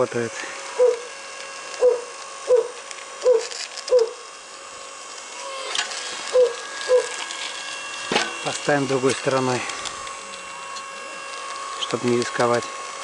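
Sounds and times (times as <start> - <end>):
log splitter motor hum: 0.0 - 13.0
faint crackles: 0.3 - 12.8.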